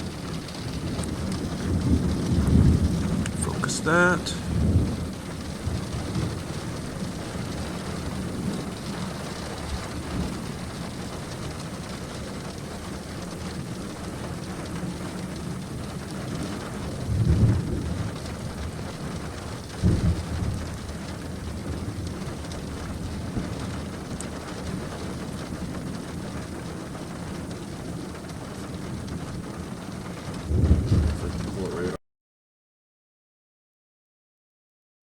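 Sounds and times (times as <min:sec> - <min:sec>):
low thunder rumbles: 0:00.0 - 0:32.0
rain hiss: 0:00.0 - 0:32.0.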